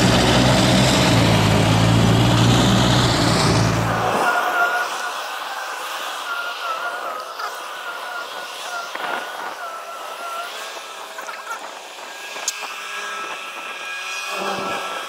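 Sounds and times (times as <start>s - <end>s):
machinery drone with whine: 0.0s - 15.0s.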